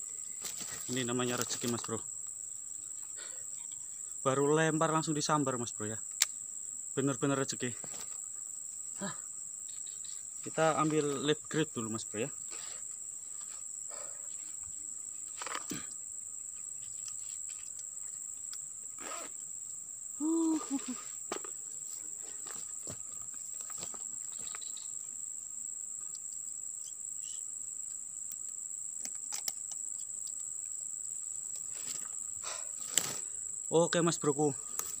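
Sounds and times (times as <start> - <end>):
insects droning: 0.0 - 35.0.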